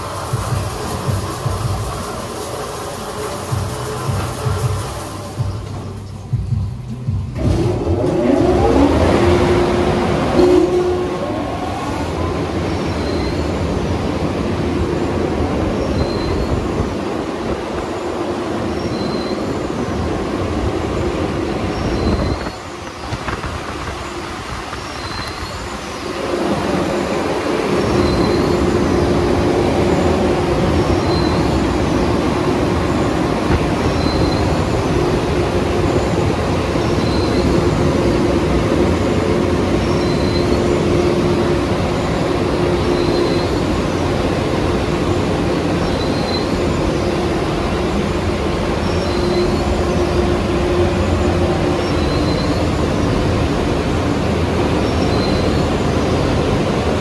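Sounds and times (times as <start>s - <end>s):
car wash machine humming: 0.0s - 57.0s.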